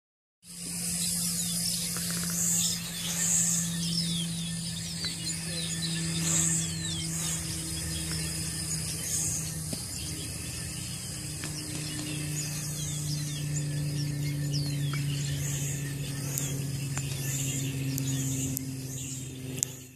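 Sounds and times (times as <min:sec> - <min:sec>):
drone motors whining: 0:00.4 - 0:19.9.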